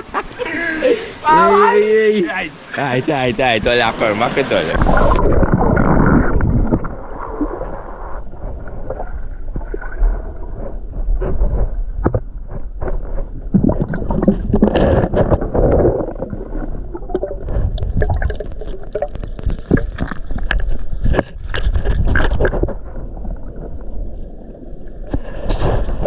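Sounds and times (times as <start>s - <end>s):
water churning and gurgling: 0.0s - 26.0s.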